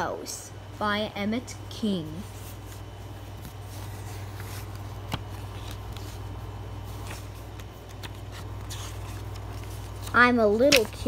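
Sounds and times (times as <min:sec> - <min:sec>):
steady low hum: 0:00.0 - 0:11.0
paper pages rustling: 0:02.1 - 0:11.0.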